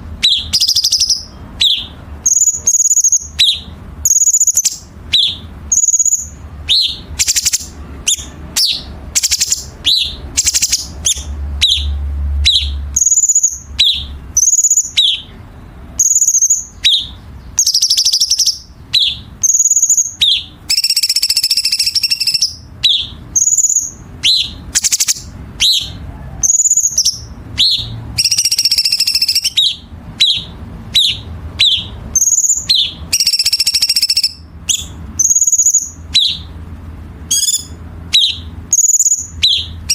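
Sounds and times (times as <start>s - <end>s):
songbird calling: 0.0s - 39.9s.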